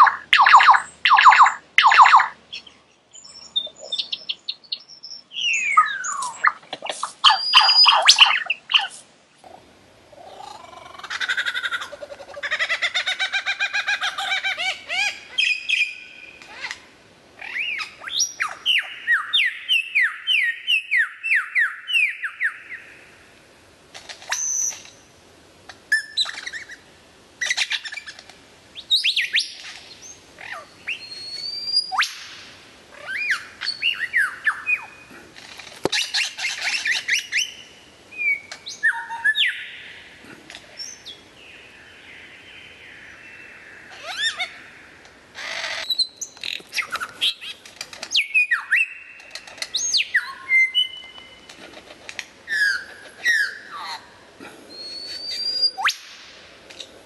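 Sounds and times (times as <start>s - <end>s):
lyrebird singing varied song: 0.0s - 9.0s, 12.9s - 16.8s, 17.4s - 23.1s, 25.9s - 26.8s, 27.4s - 32.3s, 33.0s - 35.1s, 35.9s - 51.5s, 52.5s - 56.1s.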